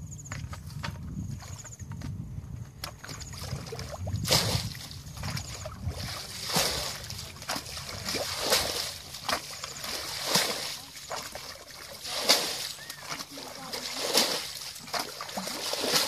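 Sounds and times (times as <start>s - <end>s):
bucket scooping water: 0.2s - 16.0s
water sloshing: 0.2s - 16.0s
big water splashes: 0.3s - 16.0s.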